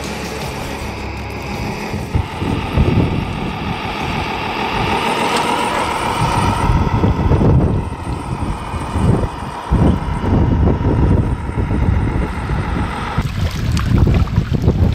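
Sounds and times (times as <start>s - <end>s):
toy truck motor and gears whining: 0.0s - 13.3s
wind buffeting microphone: 1.4s - 14.9s.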